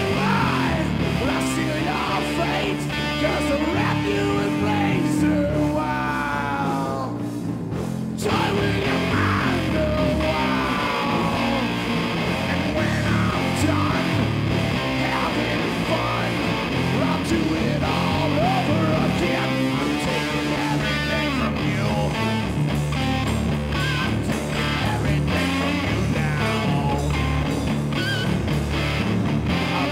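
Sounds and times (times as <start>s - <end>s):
electric guitar: 0.0s - 29.9s
live rock band playing: 0.0s - 29.9s.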